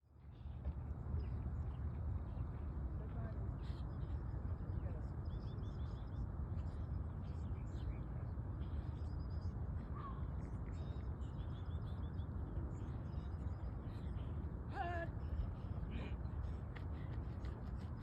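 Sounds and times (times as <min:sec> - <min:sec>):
birds chirping: 0:01.2 - 0:18.0.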